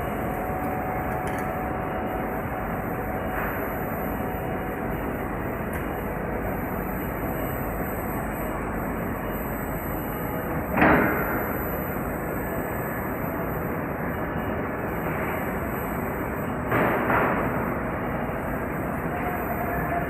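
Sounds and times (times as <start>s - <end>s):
workshop machinery humming: 0.0s - 20.0s.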